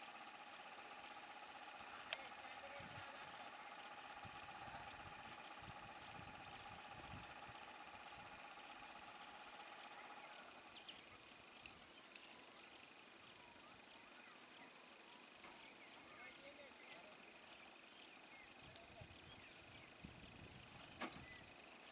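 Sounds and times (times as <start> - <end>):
insects chirping: 0.0 - 21.9.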